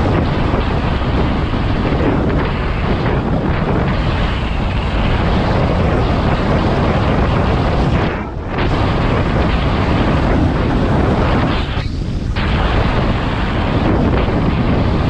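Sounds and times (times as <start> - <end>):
wind rush buffeting microphone: 0.0 - 15.0.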